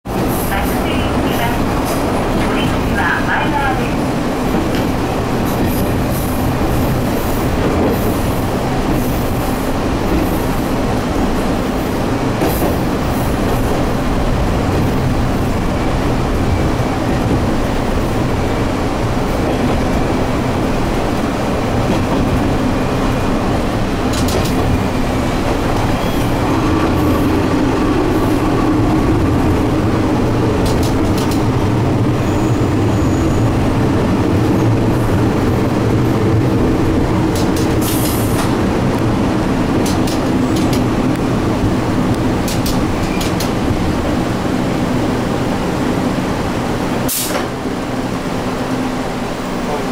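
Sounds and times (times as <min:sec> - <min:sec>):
train engine drone: 0:00.0 - 0:49.9
wheel and rail noise: 0:00.1 - 0:49.9.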